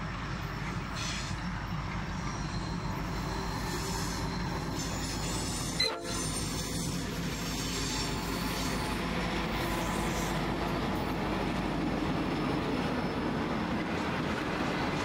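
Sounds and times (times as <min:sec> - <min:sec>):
diesel locomotive engines: 0:00.0 - 0:15.0.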